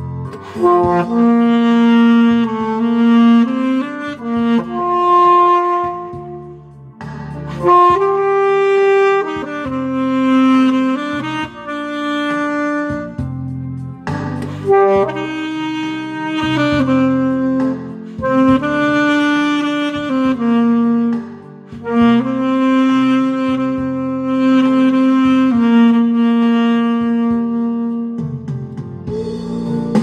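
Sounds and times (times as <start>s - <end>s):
backing track with bass: 0.0s - 30.0s
saxophone slow melody: 0.0s - 30.0s.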